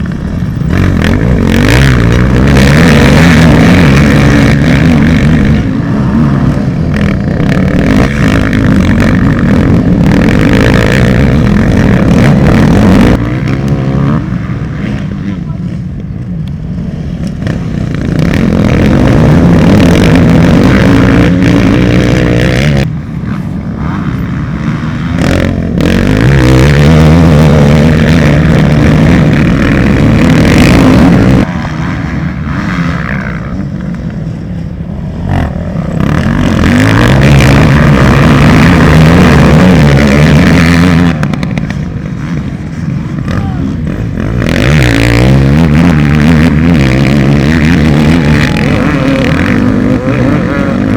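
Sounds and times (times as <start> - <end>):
motorbike engines revving: 0.0 - 50.9.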